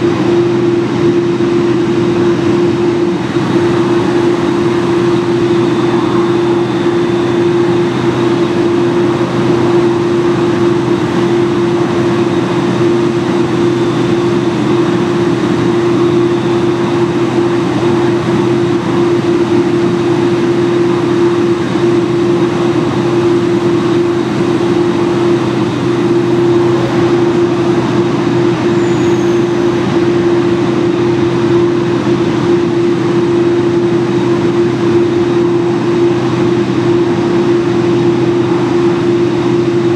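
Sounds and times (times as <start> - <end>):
jet airliner idling drone: 0.0 - 39.9.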